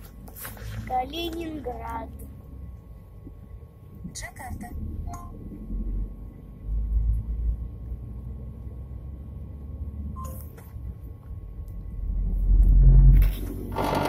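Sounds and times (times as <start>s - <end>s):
vehicle rumble from inside cabin: 0.0s - 14.0s.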